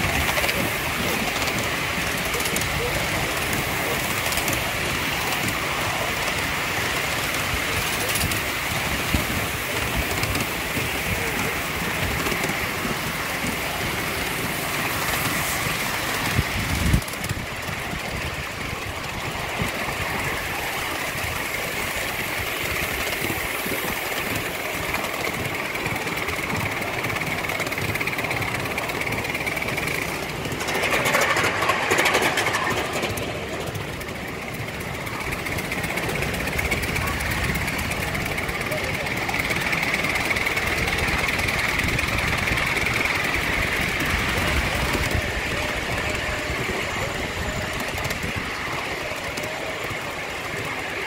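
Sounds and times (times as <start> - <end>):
steam locomotive chuffing: 0.0 - 51.0
wheels running over rails: 0.0 - 51.0.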